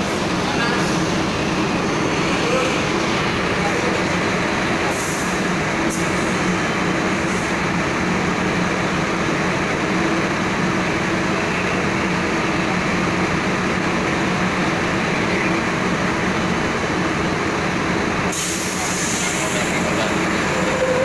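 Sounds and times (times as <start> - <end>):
truck diesel engine running slowly: 0.0 - 21.0.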